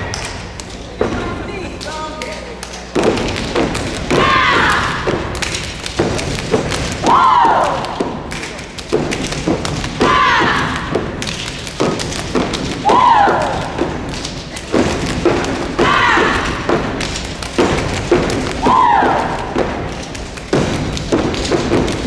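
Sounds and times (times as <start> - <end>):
stomping and clapping: 0.0 - 22.0.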